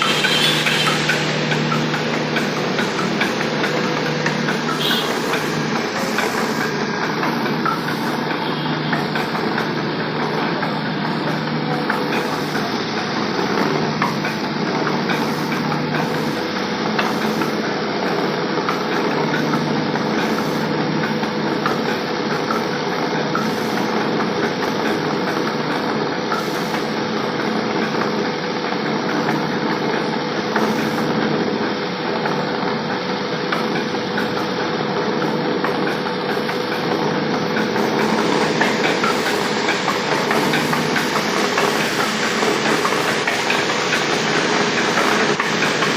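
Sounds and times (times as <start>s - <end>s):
mill machinery rattling: 0.0s - 45.9s.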